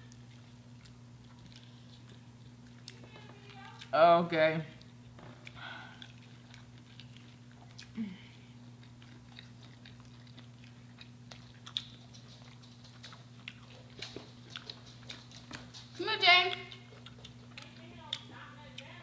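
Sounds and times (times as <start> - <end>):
chewing and crunching: 0.0 - 4.1, 4.7 - 19.0
steady low hum: 0.0 - 19.0.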